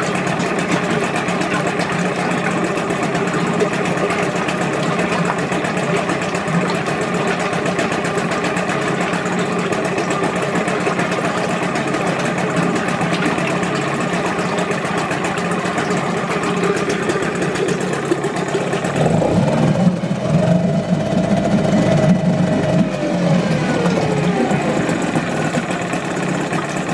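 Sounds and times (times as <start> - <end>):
outboard motor running: 0.0 - 26.9.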